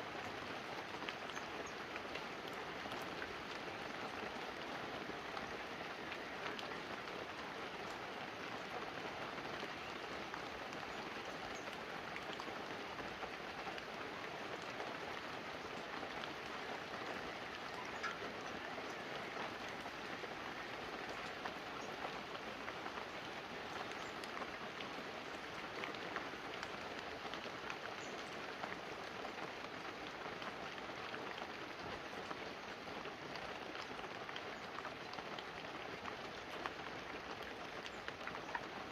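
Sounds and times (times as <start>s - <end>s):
light rain on leaves and roof: 0.0s - 38.9s.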